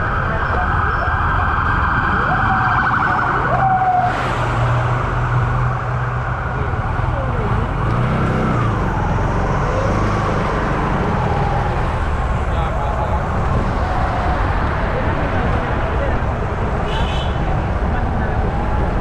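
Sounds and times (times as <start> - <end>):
vehicle engine hum and road noise: 0.0 - 19.0.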